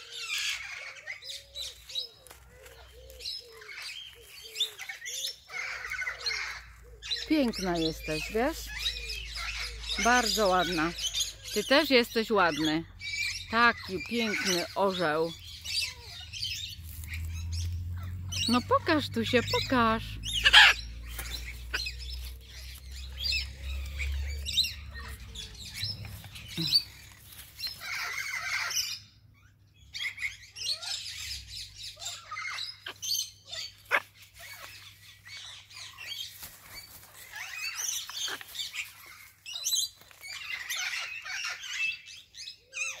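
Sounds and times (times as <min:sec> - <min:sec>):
macaws chattering raspy calls: 0:00.0 - 0:43.0.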